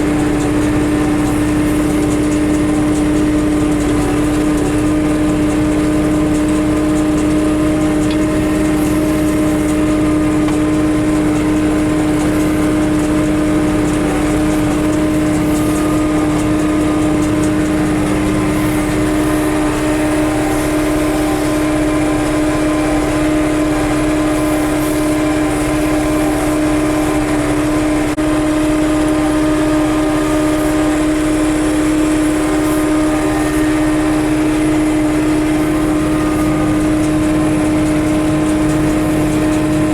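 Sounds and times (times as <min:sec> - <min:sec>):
square baler working: 0:00.0 - 0:39.9
tractor diesel engine humming: 0:00.0 - 0:39.9.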